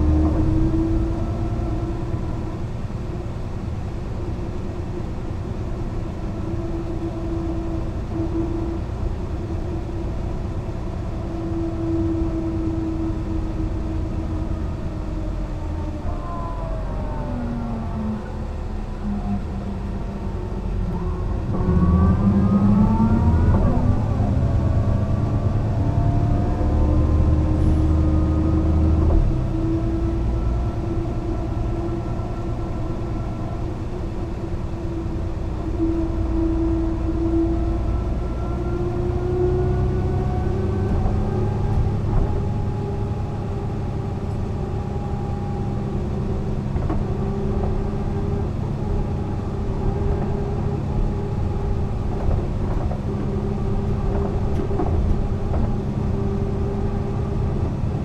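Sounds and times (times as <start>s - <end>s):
bus diesel engine pulling: 0.0s - 58.0s
heavy low rumble: 0.0s - 58.0s.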